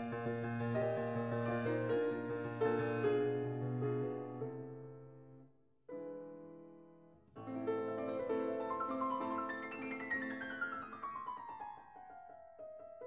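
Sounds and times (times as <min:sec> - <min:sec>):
piano music: 0:00.0 - 0:06.8, 0:07.4 - 0:13.0.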